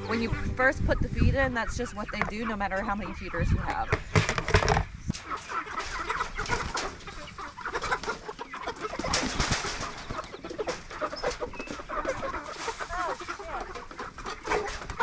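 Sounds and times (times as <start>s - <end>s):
chickens clucking and cheeping: 0.0s - 15.0s.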